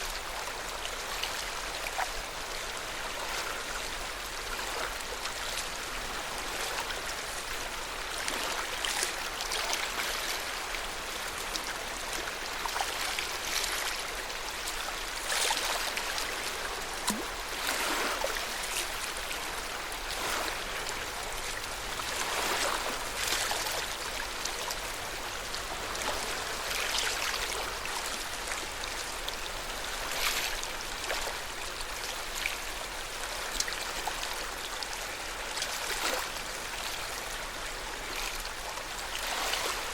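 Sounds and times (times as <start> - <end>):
lake water lapping at shore: 0.0 - 39.9.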